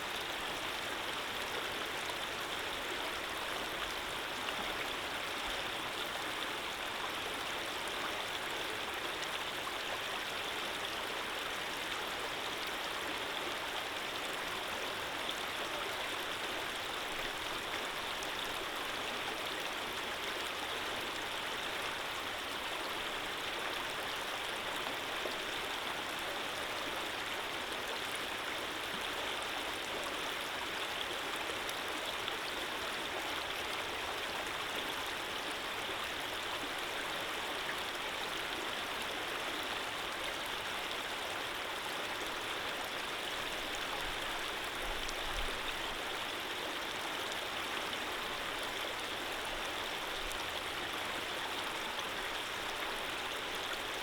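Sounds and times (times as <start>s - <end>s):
stream of running water: 0.0s - 54.0s.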